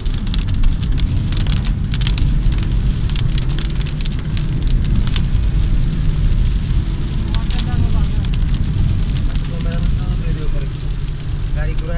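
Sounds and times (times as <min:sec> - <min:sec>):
engine and road noise: 0:00.0 - 0:11.9
heavy rain drumming on a car: 0:00.0 - 0:11.9.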